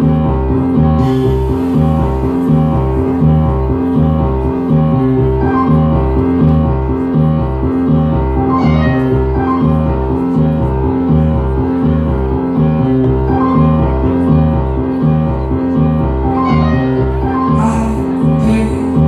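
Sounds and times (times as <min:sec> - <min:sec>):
dance music with piano and bass: 0:00.0 - 0:19.0.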